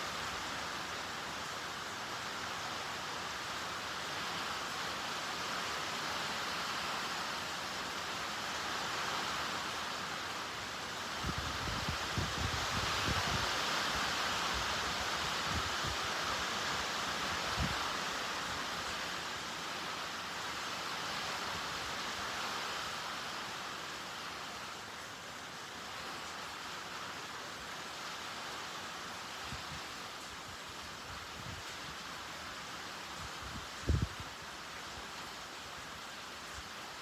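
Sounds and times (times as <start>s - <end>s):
wind rustling through trees: 0.0s - 37.0s.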